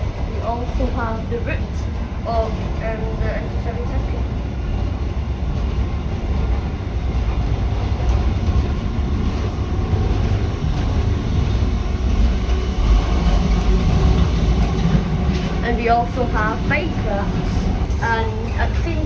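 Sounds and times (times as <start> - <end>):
train coach rumbling: 0.0 - 19.0.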